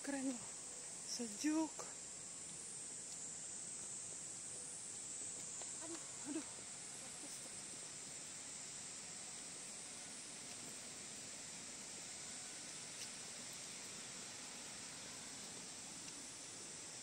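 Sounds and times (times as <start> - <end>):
insects chirring shrilly: 0.0 - 17.0.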